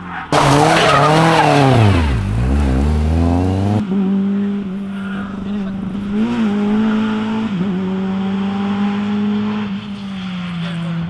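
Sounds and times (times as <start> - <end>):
rally car engine at high revs: 0.2 - 11.0.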